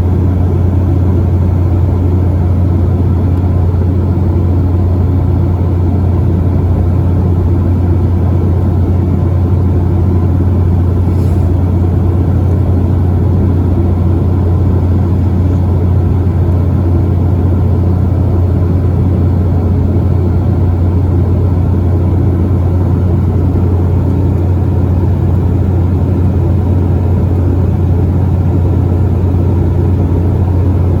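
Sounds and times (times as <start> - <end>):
jet engine drone in cabin: 0.0 - 31.0.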